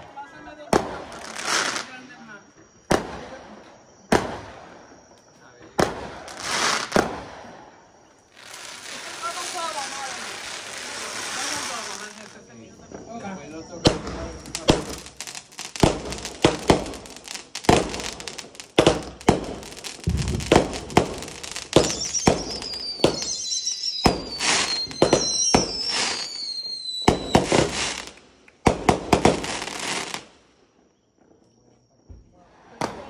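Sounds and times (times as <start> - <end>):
fireworks bangs and crackle: 0.0 - 2.1, 2.8 - 31.3, 32.2 - 33.0
falling firework whistles: 0.0 - 31.2.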